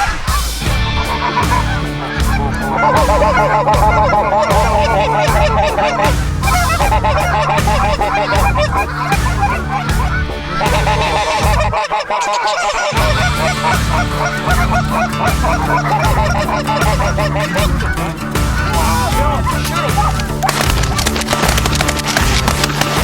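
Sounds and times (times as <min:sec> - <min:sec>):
geese honking: 0:00.0 - 0:23.0.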